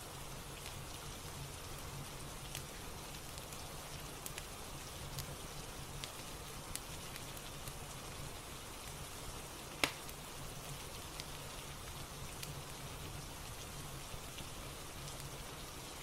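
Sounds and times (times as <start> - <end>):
fire crackling and popping: 0.0 - 16.0
steady rain: 0.0 - 16.0.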